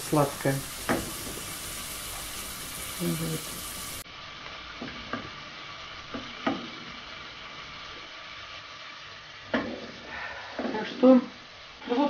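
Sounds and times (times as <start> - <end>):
corn sizzling in butter: 0.0 - 12.0.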